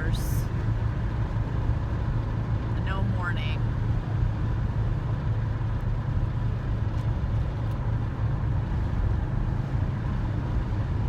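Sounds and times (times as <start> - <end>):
van engine and road drone: 0.0 - 11.0.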